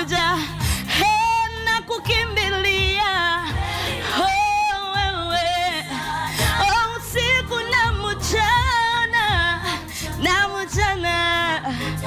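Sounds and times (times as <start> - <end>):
backing music with low beat: 0.0 - 12.0
woman singing gospel: 0.0 - 12.0.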